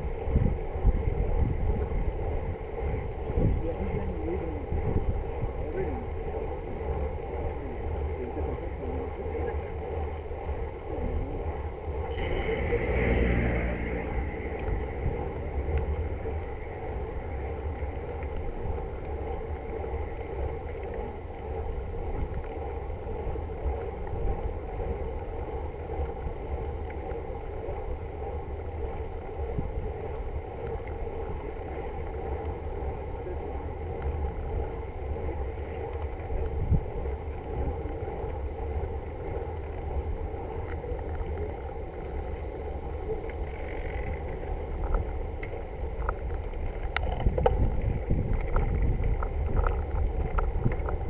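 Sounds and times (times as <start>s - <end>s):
bicycles road noise: 0.0s - 51.0s
wind rumble on microphone: 0.0s - 51.0s.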